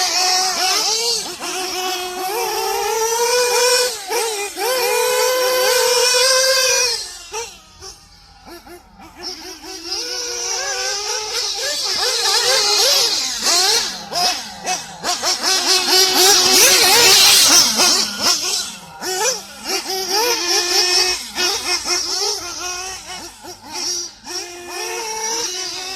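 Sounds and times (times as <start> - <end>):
model car nitro engine revving: 0.0 - 25.9.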